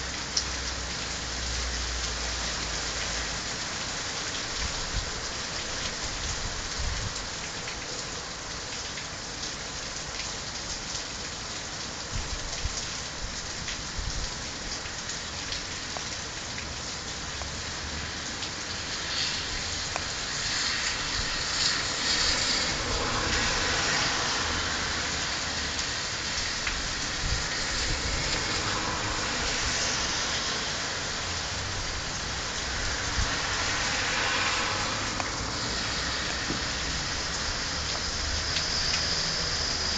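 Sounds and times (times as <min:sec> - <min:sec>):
heavy rain on lawns and road: 0:00.0 - 0:39.9.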